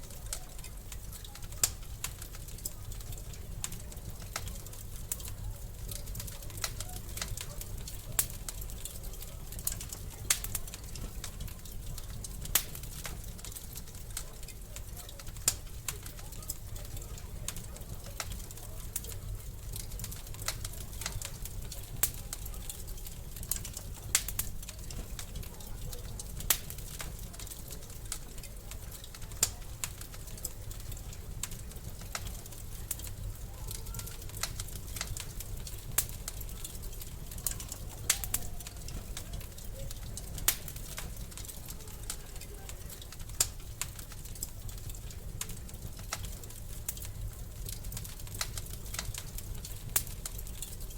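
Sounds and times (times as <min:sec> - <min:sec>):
fire snapping: 0:00.0 - 0:50.9
wood fire crackling: 0:00.0 - 0:50.9.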